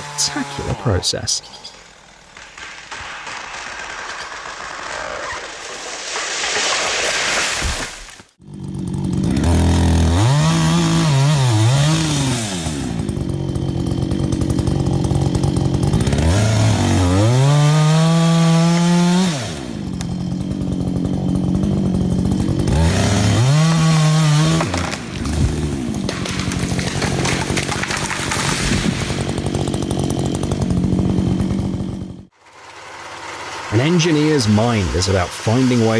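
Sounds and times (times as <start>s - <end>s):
chainsaw cutting wood: 0.0s - 1.0s, 1.7s - 35.9s.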